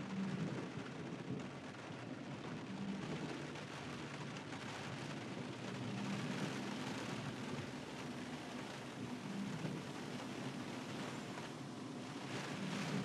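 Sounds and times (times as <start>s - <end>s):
engine and tyres rumble: 0.0s - 13.0s
rain on wet road hiss: 0.0s - 13.0s.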